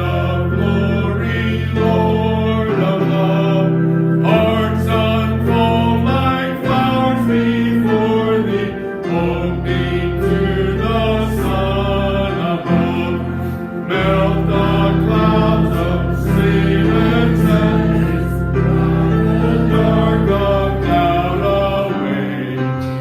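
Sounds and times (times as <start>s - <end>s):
group singing a hymn: 0.0s - 23.0s
instrumental accompaniment bass notes: 0.0s - 23.0s.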